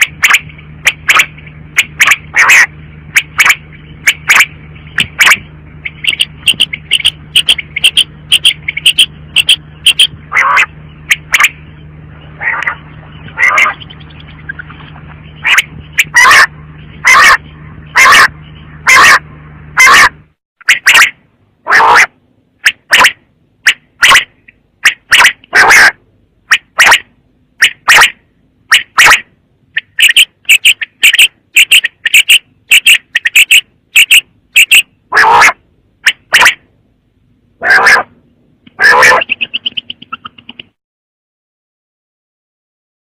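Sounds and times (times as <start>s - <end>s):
quail calling: 0.0s - 36.7s, 37.6s - 40.8s
steady low hum: 0.0s - 40.8s.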